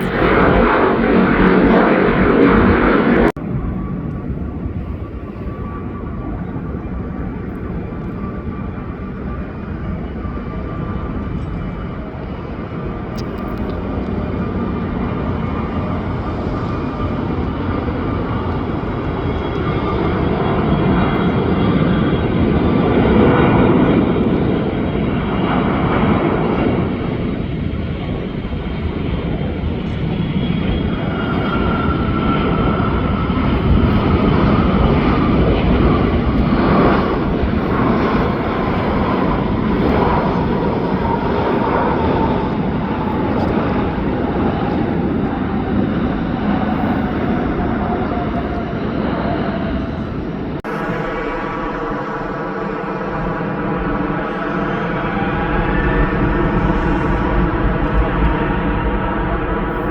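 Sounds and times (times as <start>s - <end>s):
jet engine roar: 0.0s - 59.9s
jet engine whine: 0.0s - 59.9s.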